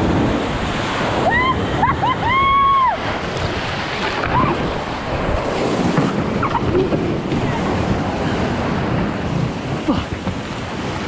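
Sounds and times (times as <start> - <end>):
whitewater rapids rushing: 0.0 - 11.0
wind buffeting microphone: 0.0 - 11.0.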